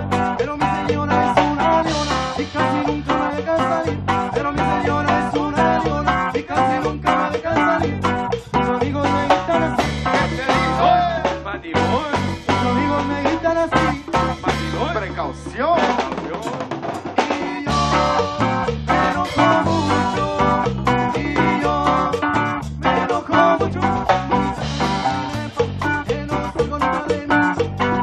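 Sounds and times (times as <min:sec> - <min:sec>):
electric bass with steady beat: 0:00.0 - 0:15.8, 0:17.7 - 0:28.0.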